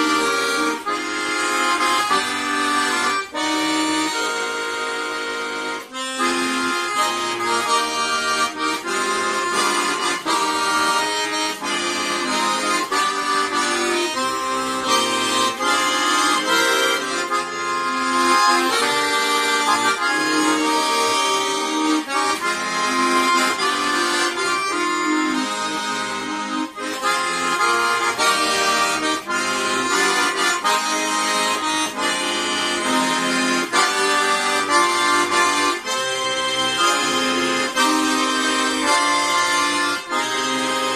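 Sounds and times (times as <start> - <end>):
accordion playing a tune: 0.0 - 40.9.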